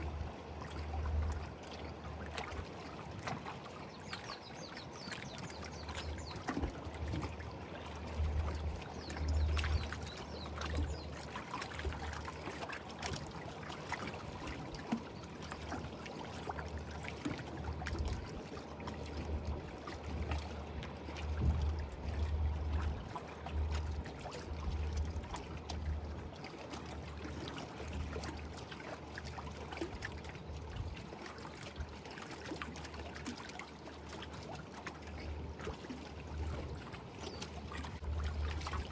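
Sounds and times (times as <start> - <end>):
water lapping at shore: 0.0 - 38.9.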